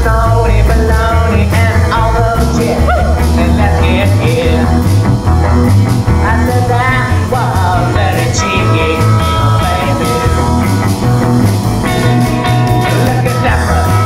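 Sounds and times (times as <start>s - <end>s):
rock band music: 0.0s - 14.0s.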